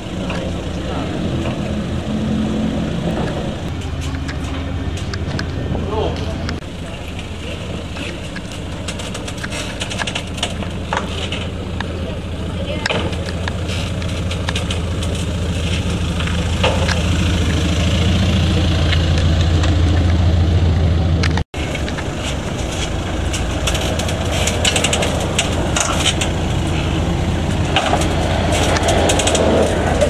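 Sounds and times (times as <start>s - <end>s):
truck engine running at low revs: 0.0s - 30.0s.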